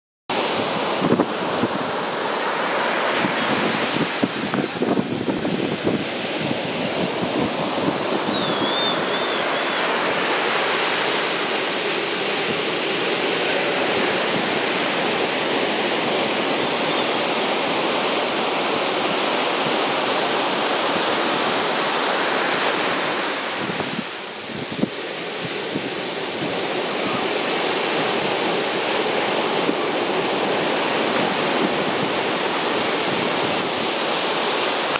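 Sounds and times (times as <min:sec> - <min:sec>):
ocean surf breaking: 0:00.3 - 0:34.9.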